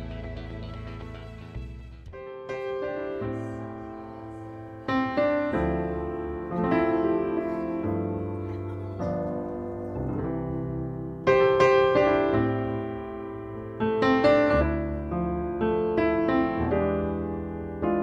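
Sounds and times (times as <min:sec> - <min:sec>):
slow gentle piano music: 0:02.1 - 0:18.0.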